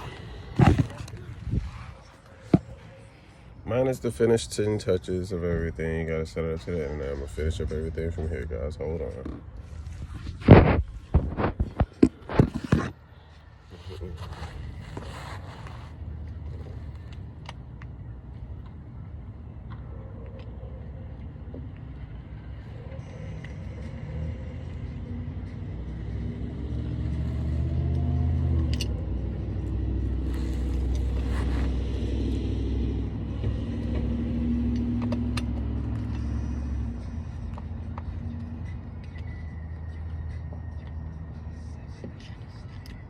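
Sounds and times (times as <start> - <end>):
vehicle engine rumble: 0.0 - 43.0.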